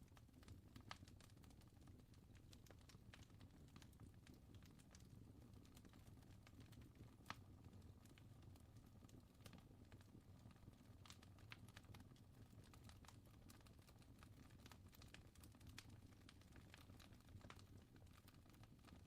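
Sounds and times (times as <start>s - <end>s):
fire crackling: 0.1s - 19.0s.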